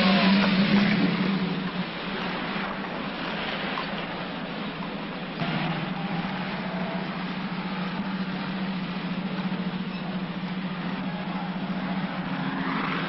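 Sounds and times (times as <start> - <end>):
road noise: 0.0 - 13.0
van engine humming: 0.0 - 13.0.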